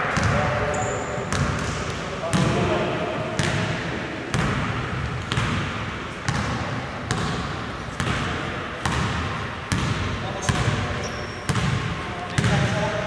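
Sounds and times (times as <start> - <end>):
basketball bouncing in gym: 0.0 - 13.0.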